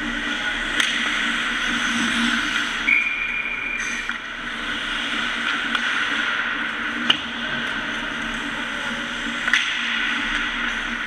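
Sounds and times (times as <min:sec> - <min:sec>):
hockey sticks and puck clacking: 0:00.2 - 0:01.7, 0:02.4 - 0:11.0.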